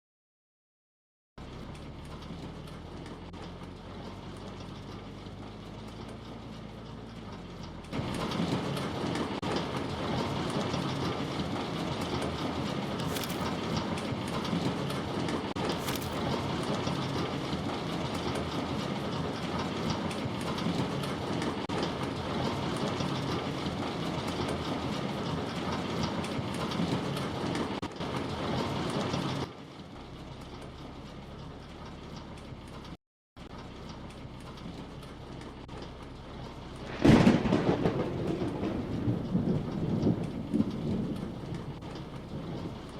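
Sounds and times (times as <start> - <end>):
vehicle engine humming: 1.4 - 27.4, 28.0 - 42.9
heavy rain on vehicle: 2.3 - 32.9, 33.6 - 42.9.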